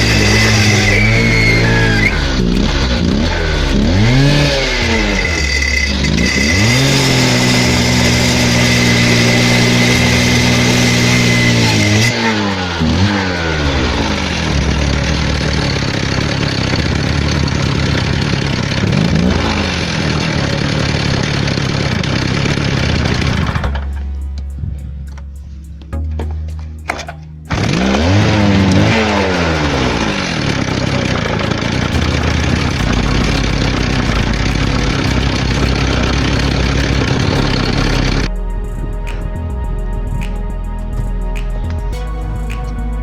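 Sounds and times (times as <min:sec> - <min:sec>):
saw two-stroke engine revving: 0:00.0 - 0:23.8, 0:27.5 - 0:38.4.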